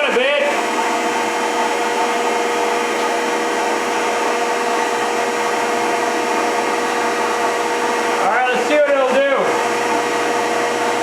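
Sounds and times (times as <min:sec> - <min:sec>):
electrical hum: 0:00.0 - 0:11.0
planer motor and pump running: 0:00.0 - 0:11.0.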